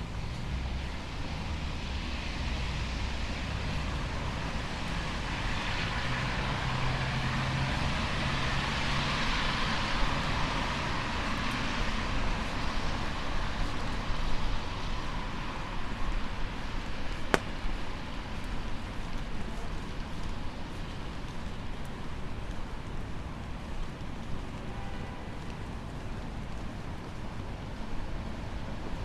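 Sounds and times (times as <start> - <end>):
tyre hiss on wet street: 0.0 - 29.0.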